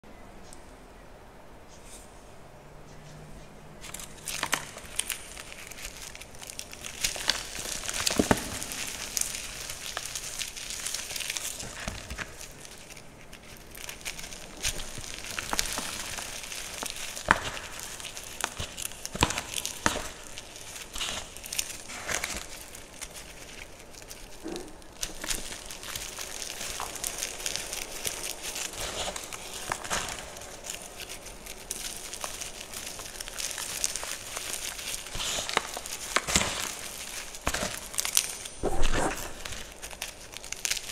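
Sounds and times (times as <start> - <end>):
chalk crunching and crackling: 2.9 - 40.9
chalk chunks cracking: 3.8 - 40.9.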